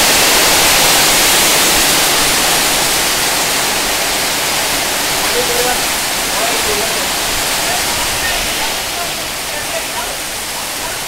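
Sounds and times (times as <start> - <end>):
heavy rain on a tin roof: 0.0 - 11.0.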